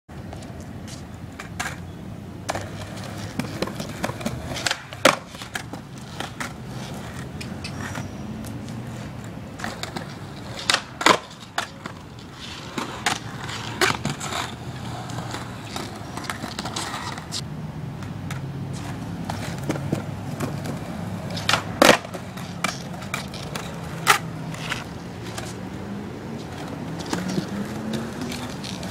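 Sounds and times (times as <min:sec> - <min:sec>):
skateboard wheels rolling on concrete: 0:00.1 - 0:28.9
skateboard clacking on pavement: 0:00.2 - 0:28.9.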